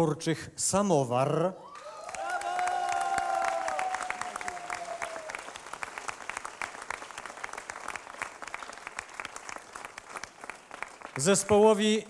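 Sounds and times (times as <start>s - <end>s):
crowd applauding: 1.6s - 12.0s.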